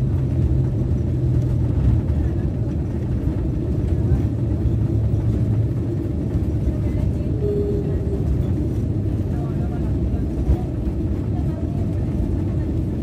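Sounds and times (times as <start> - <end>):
jet engines and airflow rumble: 0.0 - 13.0
low engine hum: 0.0 - 13.0.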